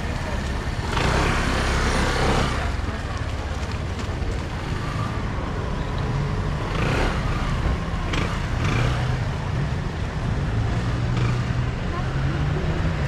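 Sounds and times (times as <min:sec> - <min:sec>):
vehicle engines humming: 0:00.0 - 0:13.0
vehicles passing: 0:00.0 - 0:13.0.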